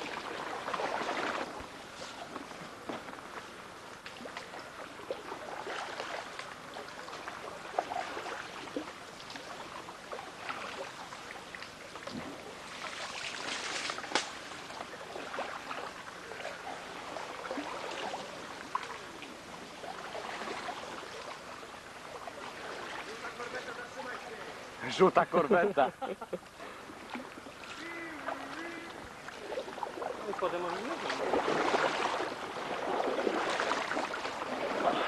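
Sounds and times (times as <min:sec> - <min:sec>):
oars splashing in water: 0:00.0 - 0:25.0, 0:26.5 - 0:35.0.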